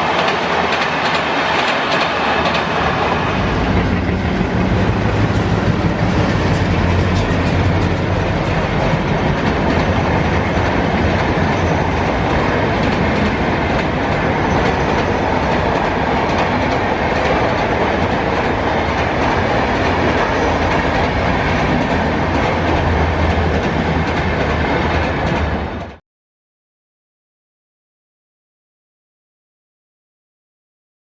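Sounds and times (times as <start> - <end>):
train passing at speed: 0.0 - 26.0
wheels clacking over rail joints: 0.0 - 26.0.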